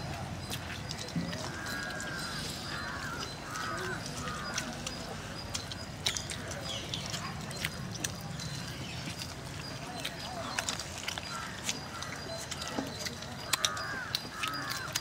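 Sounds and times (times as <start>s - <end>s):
bird calling: 1.2s - 15.0s.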